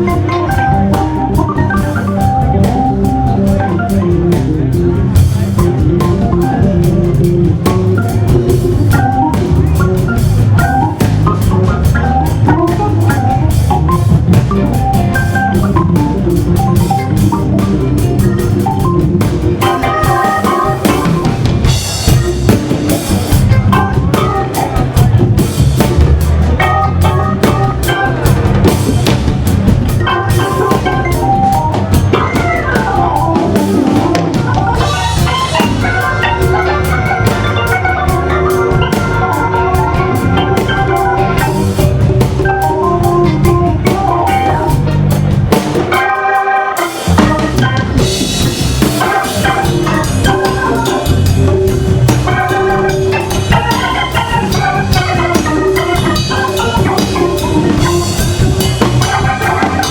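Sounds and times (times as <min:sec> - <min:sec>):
drum kit drumming: 0:00.0 - 0:59.9
organ chords: 0:00.0 - 0:59.9.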